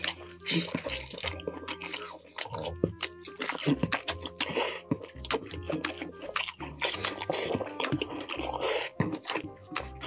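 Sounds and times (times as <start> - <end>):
wet chewing: 0.0 - 10.0.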